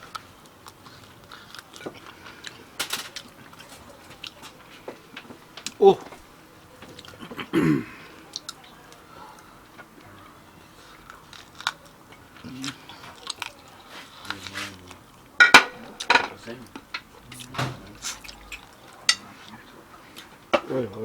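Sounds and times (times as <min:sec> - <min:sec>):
person chewing meat: 0:00.0 - 0:08.6, 0:09.4 - 0:16.0, 0:16.7 - 0:20.4.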